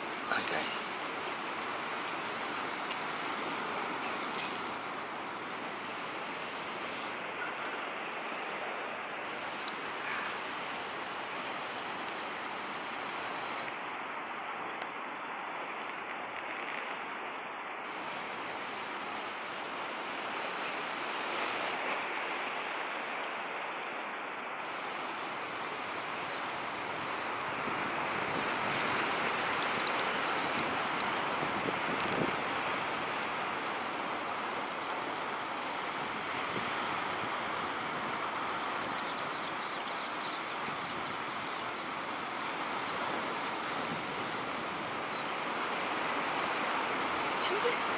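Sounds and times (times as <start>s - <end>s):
ocean waves breaking: 0.0s - 47.9s.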